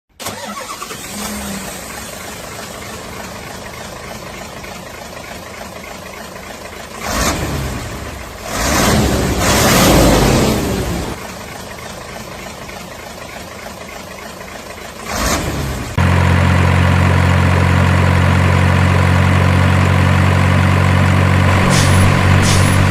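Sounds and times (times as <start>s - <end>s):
model truck engine sound: 0.1s - 22.9s.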